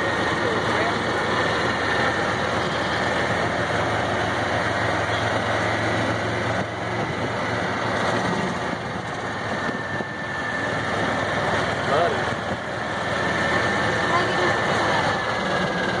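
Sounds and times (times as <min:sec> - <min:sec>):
golf cart motor hum: 0:00.0 - 0:16.0
road noise: 0:00.0 - 0:16.0.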